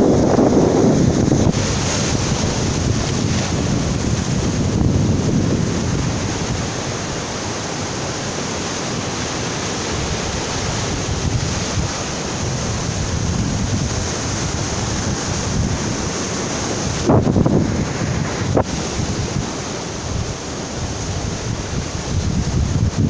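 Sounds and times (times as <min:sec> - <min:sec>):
ocean surf washing onto beach: 0:00.0 - 0:23.0
wind buffeting microphone: 0:00.0 - 0:23.0.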